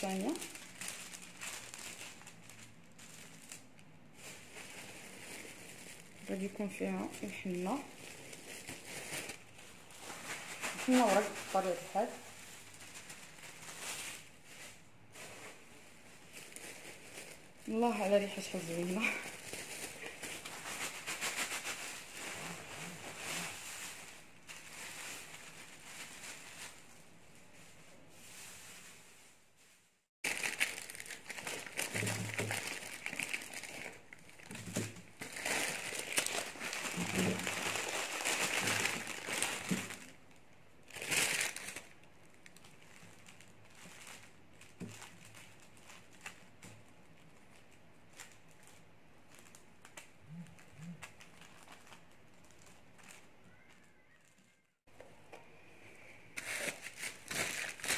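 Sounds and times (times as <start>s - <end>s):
plastic bag crinkling: 0.0s - 29.1s, 30.2s - 54.8s, 56.4s - 57.9s.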